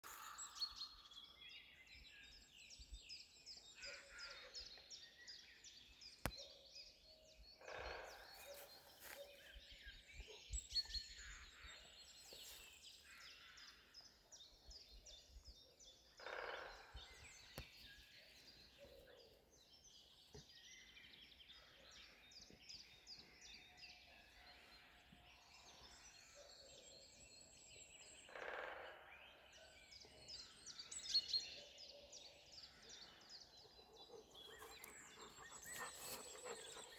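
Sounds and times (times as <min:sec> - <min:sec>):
birds singing: 0:00.0 - 0:36.9.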